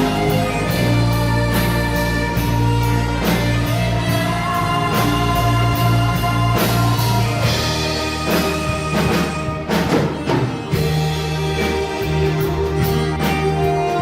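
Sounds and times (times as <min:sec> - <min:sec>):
bass notes: 0:00.0 - 0:14.0
drum kit beat: 0:00.0 - 0:14.0
electric guitar: 0:00.0 - 0:14.0
person singing: 0:00.0 - 0:14.0.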